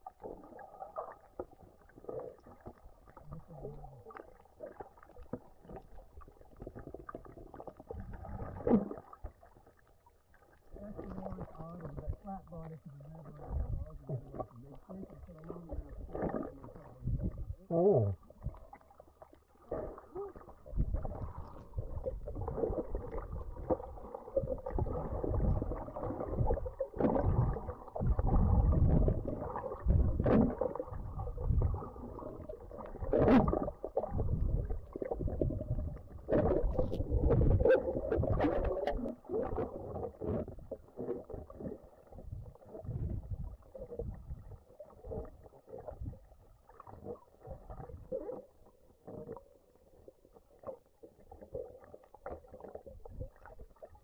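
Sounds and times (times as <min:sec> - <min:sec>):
underwater rumbling and sloshing: 0:00.0 - 0:54.0.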